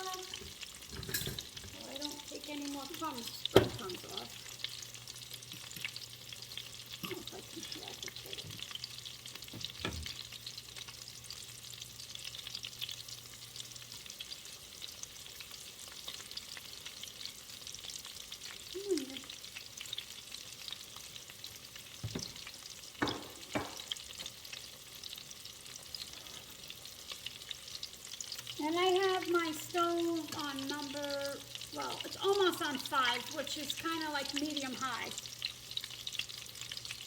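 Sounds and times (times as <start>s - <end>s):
chicken frying in hot oil: 0.0s - 37.0s.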